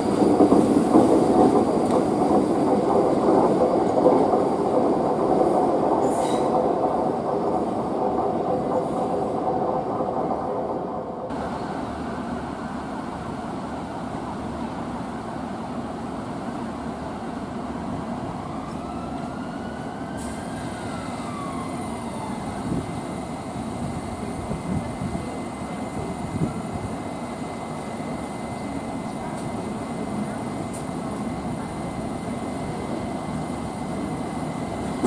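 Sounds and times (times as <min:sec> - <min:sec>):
electric train rumbling: 0:00.0 - 0:35.0
train whine: 0:00.0 - 0:35.0.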